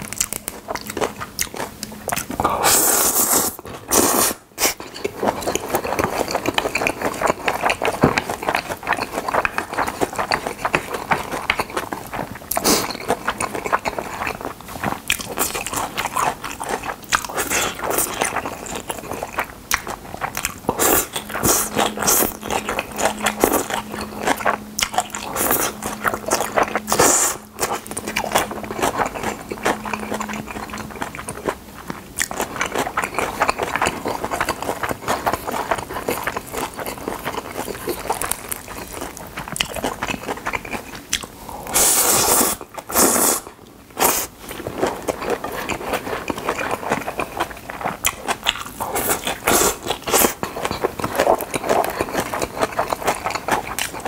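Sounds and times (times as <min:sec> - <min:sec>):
wet sticky chewing: 0:00.0 - 0:54.0
noodles slurping: 0:01.1 - 0:40.8, 0:41.5 - 0:54.0.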